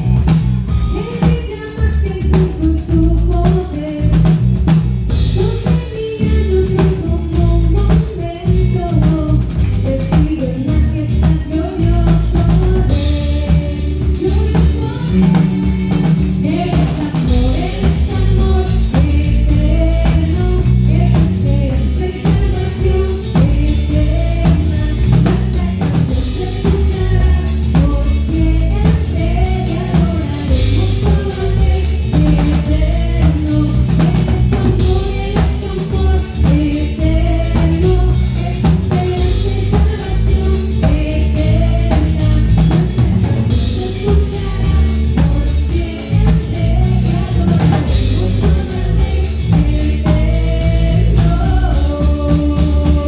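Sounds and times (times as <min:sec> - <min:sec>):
drum kit: 0:00.0 - 0:53.0
electric guitars: 0:00.0 - 0:53.0
person singing: 0:05.3 - 0:53.0.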